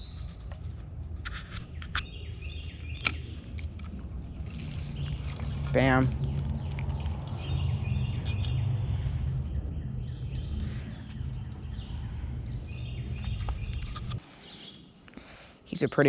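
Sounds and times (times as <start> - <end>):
low rumble on microphone: 0.0 - 14.2
birds chirping: 0.0 - 16.0.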